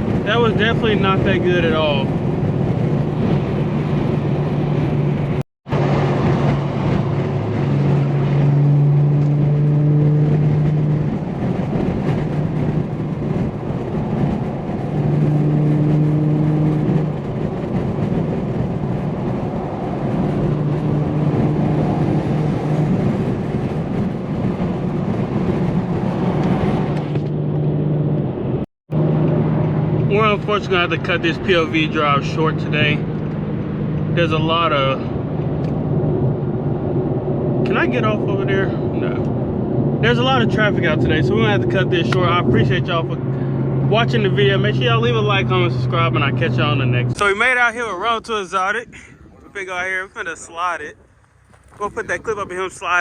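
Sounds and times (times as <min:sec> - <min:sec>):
car engine drone: 0:00.0 - 0:53.0
road noise inside car: 0:00.0 - 0:53.0.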